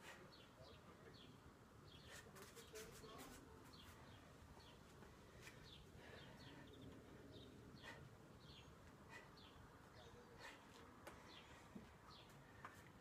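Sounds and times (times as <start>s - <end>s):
faint birds chirping: 0.0s - 13.0s
low steady background noise: 0.0s - 13.0s.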